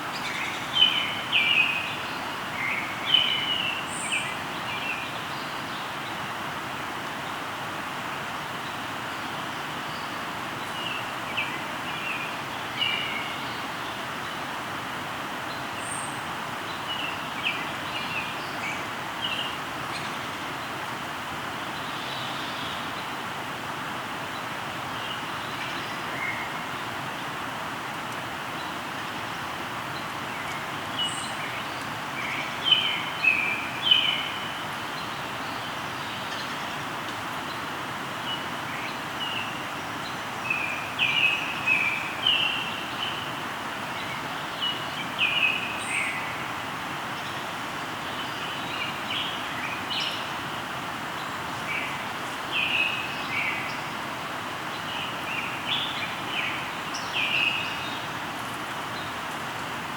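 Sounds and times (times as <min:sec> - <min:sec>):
river flowing: 0:00.0 - 0:59.9
songbirds chirping: 0:00.0 - 0:59.9.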